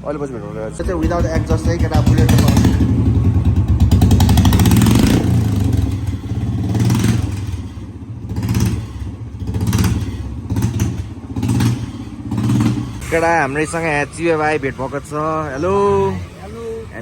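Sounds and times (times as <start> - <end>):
motorcycle engine revving: 0.6 - 17.0.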